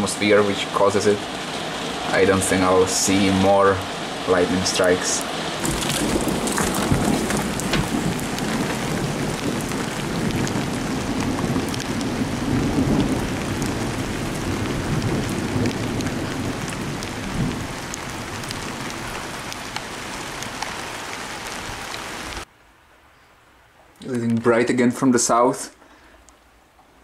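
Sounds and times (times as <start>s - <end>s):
heavy rain pouring: 0.0s - 22.5s
raindrops ticking close by: 0.0s - 22.5s, 23.8s - 25.3s.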